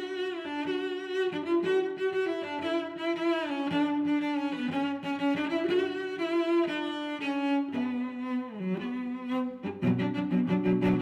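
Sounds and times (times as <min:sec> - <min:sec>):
slow cello melody: 0:00.0 - 0:11.0.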